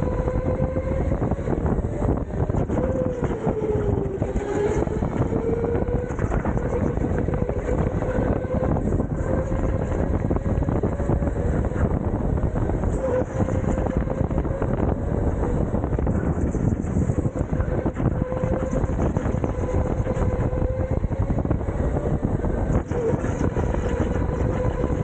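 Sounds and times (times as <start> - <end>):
go-kart motor whine: 0.0 - 25.0
tyre and wind rumble: 0.0 - 25.0.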